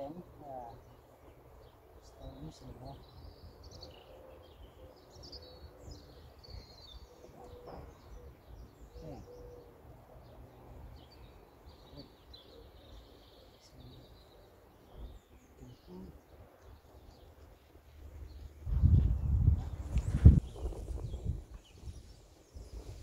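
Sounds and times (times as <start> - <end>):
small birds chirping: 0.0 - 23.0
low bird calls: 0.8 - 23.0.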